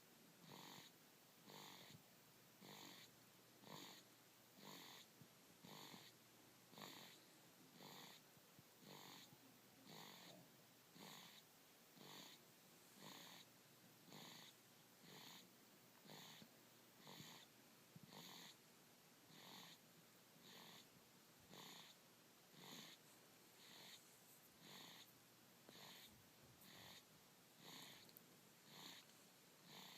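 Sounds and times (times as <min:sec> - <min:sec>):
baby snoring faintly: 0:00.4 - 0:02.0, 0:02.6 - 0:18.6, 0:19.2 - 0:29.9.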